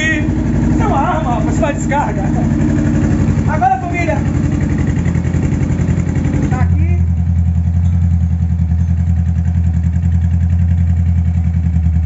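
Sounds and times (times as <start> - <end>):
motorcycle idling: 0.0 - 12.0.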